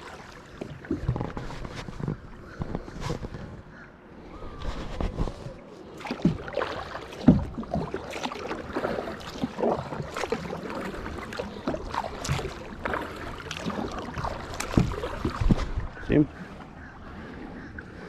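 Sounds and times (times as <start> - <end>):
paddle splashing in water: 0.0 - 18.0.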